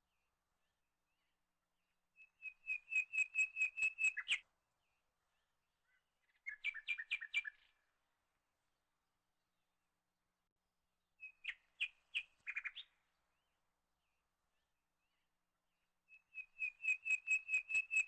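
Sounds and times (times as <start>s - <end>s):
songbird chirping: 0.0s - 8.4s, 11.2s - 18.0s.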